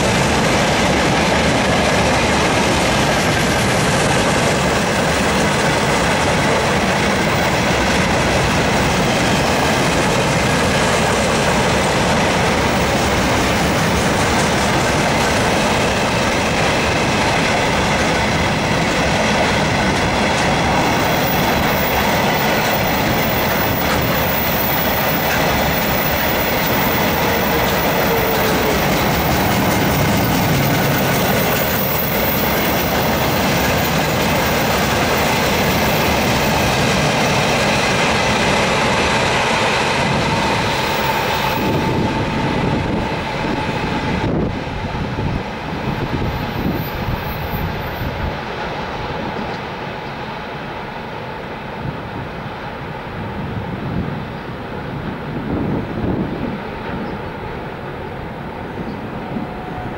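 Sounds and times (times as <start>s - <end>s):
train wheels clattering over rail joints: 0.0s - 48.1s.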